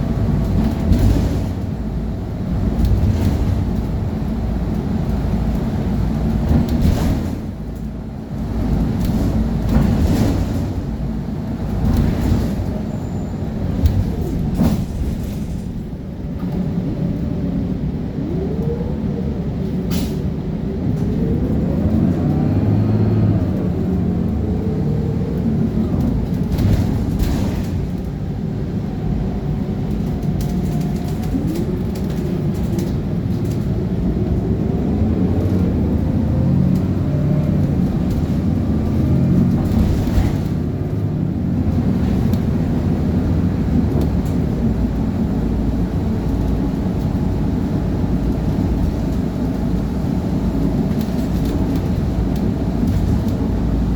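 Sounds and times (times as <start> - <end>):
bus engine rumble: 0.0 - 53.9.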